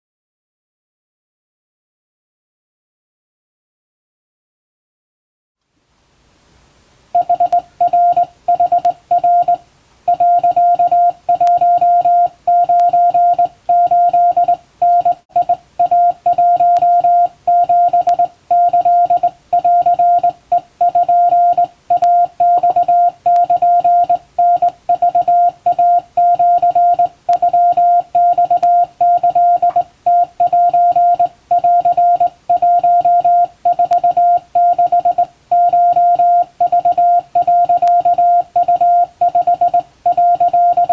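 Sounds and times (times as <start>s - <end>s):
morse code beeps: 7.2s - 40.9s.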